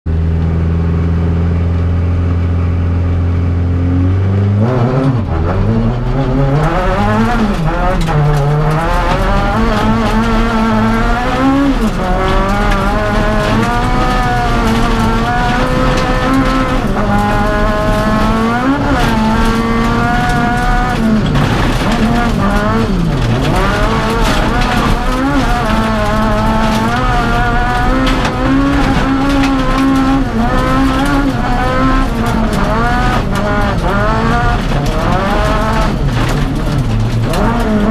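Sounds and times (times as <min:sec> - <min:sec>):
rally car engine revving: 0:00.1 - 0:37.9
tyres on gravel: 0:05.4 - 0:37.9.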